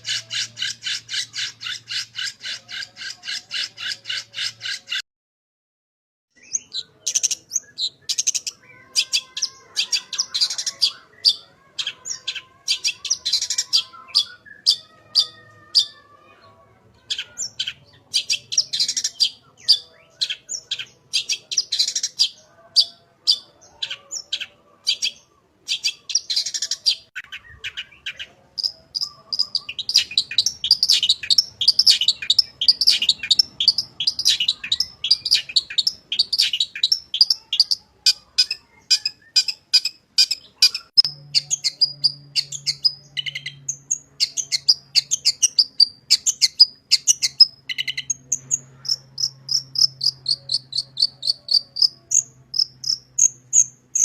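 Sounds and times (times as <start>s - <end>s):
bird chirps and trills: 0.0s - 5.0s, 6.4s - 54.0s.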